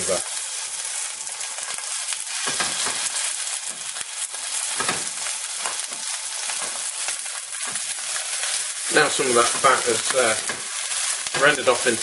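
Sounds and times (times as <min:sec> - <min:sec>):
steak fat sizzling in a frying pan: 0:00.0 - 0:12.0.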